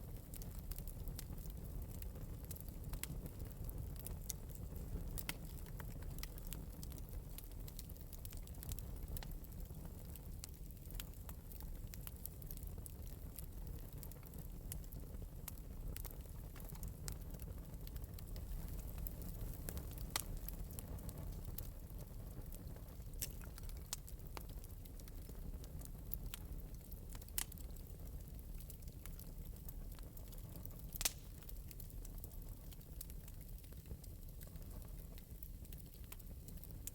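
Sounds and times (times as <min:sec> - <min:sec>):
fire crackling and popping: 0:00.0 - 0:36.9.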